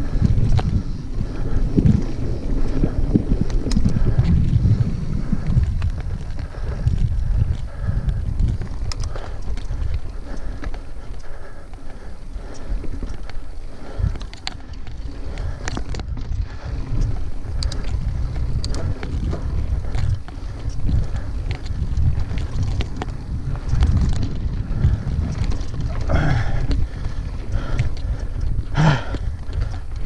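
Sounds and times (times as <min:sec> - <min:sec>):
bike knocking and rattling: 0:00.0 - 0:30.0
bike tyres rolling over dirt: 0:00.0 - 0:30.0
wind buffeting microphone: 0:00.0 - 0:30.0.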